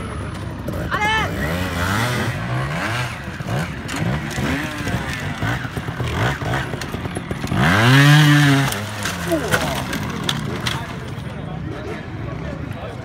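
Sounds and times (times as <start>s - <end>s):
motorcycle engine revving: 0.4s - 11.0s.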